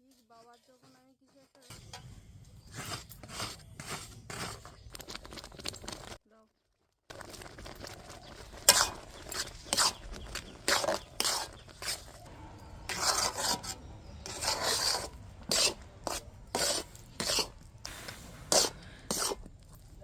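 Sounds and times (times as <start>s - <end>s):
spatula scraping a pan: 1.6s - 6.2s, 7.1s - 20.0s.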